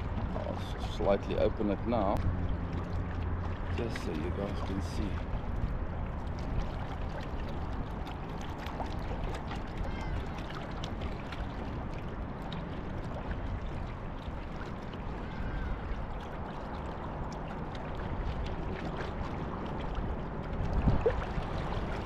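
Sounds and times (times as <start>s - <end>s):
water splashing and rushing: 0.0s - 22.0s
wind buffeting microphone: 0.0s - 22.0s.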